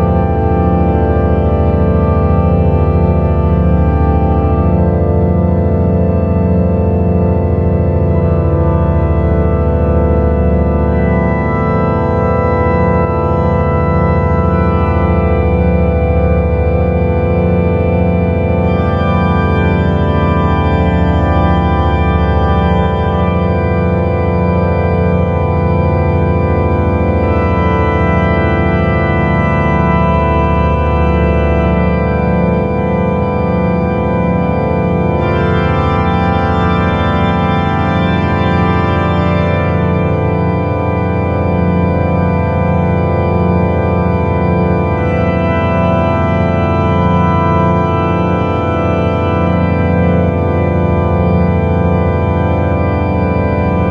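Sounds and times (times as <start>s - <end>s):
ambient drone music: 7.6s - 53.9s.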